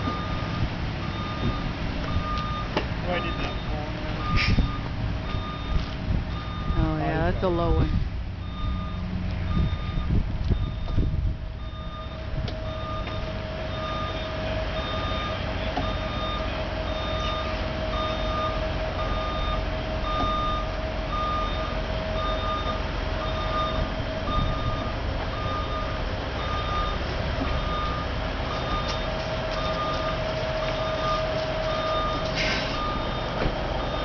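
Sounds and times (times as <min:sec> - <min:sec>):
truck engine rumble: 0:00.0 - 0:34.0
truck reversing alarm beeping: 0:00.0 - 0:34.0.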